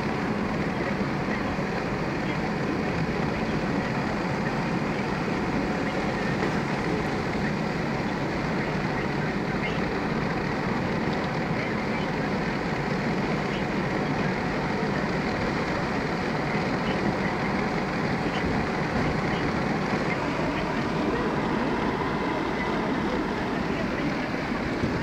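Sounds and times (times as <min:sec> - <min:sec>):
road and engine noise in car: 0:00.0 - 0:25.0.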